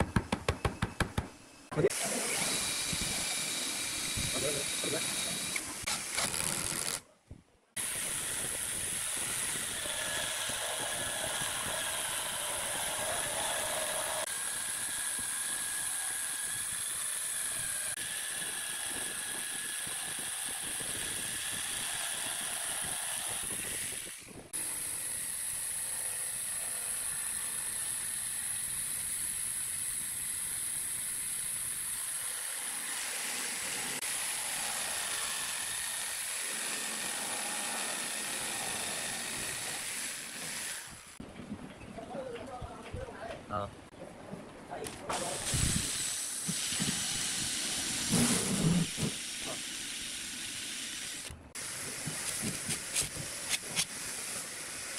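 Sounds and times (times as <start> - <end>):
jigsaw cutting wood: 1.8 - 7.0, 7.8 - 41.2, 45.1 - 54.9.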